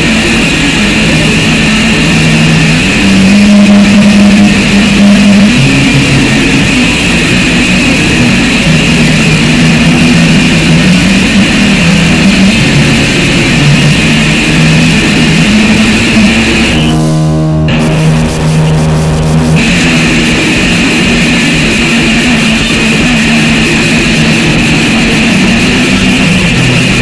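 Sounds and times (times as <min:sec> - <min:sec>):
distorted noise music: 0:00.0 - 0:27.0.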